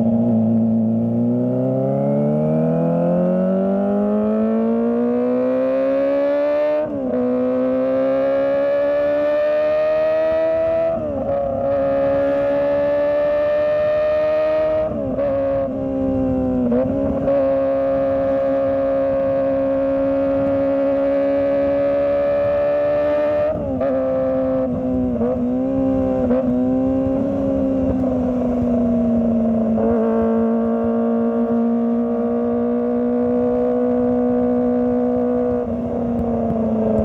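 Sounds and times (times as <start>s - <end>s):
motorcycle engine at high revs: 0.0s - 37.0s.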